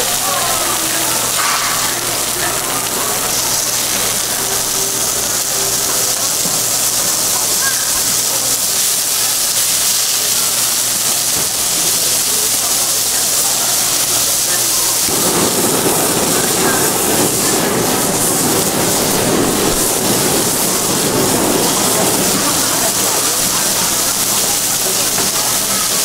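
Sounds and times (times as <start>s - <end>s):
gas torch flame rushing: 0.0s - 26.0s
meat sizzling on griddle: 0.0s - 26.0s.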